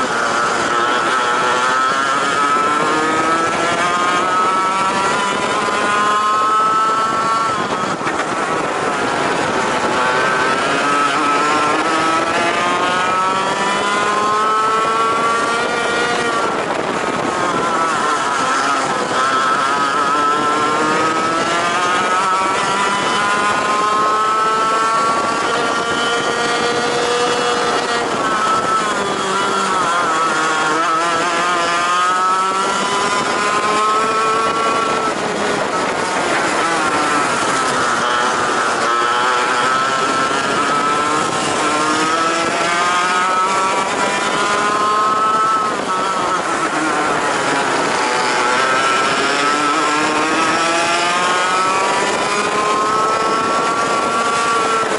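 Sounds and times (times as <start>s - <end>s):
racing kart engine revving: 0.0s - 54.9s.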